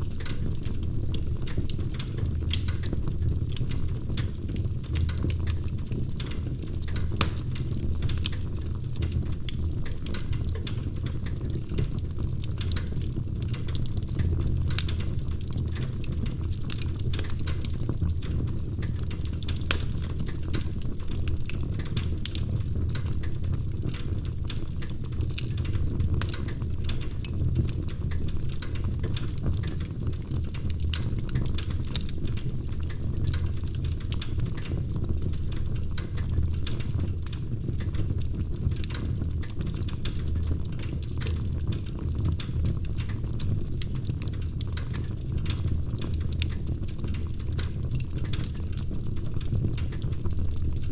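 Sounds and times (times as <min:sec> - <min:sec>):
fire crackling and popping: 0:00.0 - 0:50.9.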